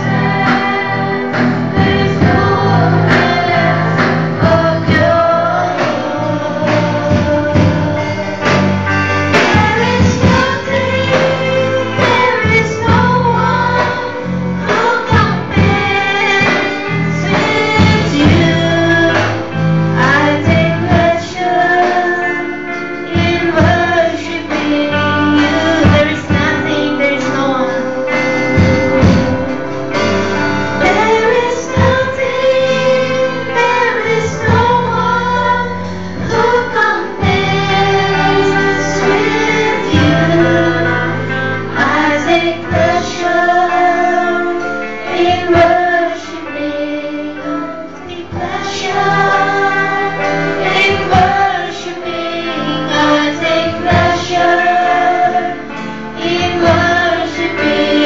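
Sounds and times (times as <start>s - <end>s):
woman singing into a microphone: 0.0s - 29.7s, 30.8s - 58.0s
live band playing: 0.0s - 58.0s.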